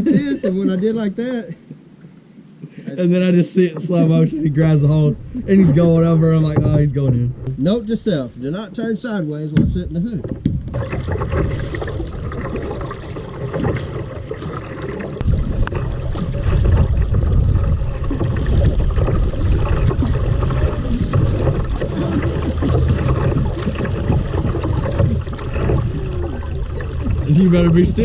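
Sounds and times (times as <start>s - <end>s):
water sloshing around a kayak: 0.0s - 28.0s
wind buffeting microphone: 3.7s - 28.0s.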